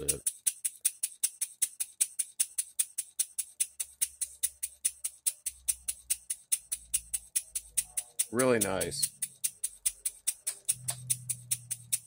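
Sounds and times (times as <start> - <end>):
model engine exhaust puffing: 0.0 - 12.0.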